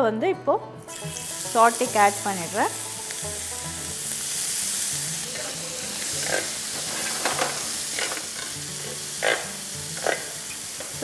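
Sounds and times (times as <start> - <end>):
chicken sizzling in oil: 0.9 - 11.0.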